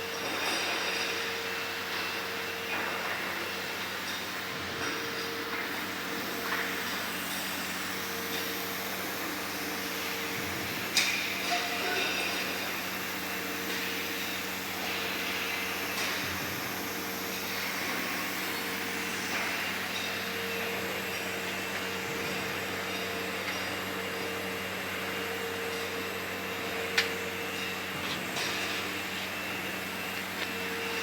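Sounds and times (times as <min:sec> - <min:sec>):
steady machine hum: 0:03.5 - 0:31.0.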